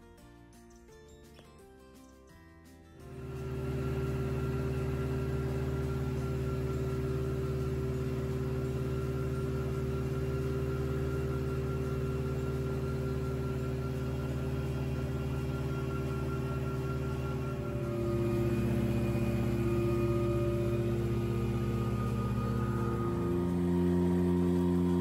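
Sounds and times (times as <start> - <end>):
aircraft engine droning: 3.1 - 25.0.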